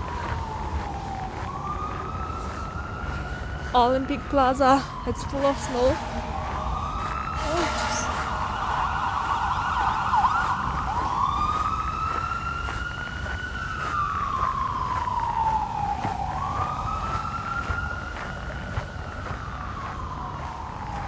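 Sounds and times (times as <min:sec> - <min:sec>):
emergency vehicle siren: 0:00.0 - 0:21.0
low traffic rumble: 0:00.0 - 0:21.0.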